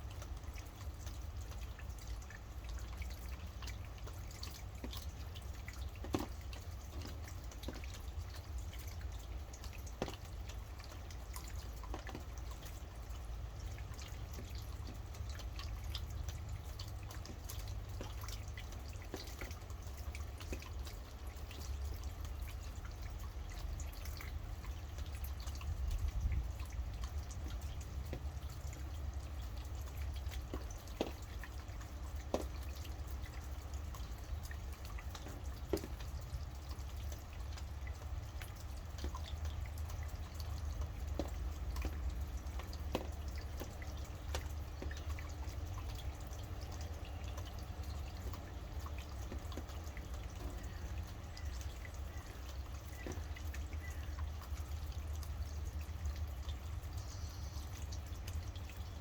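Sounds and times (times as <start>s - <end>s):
rain falling: 0.0s - 59.0s
heavy raindrops striking: 3.7s - 57.0s.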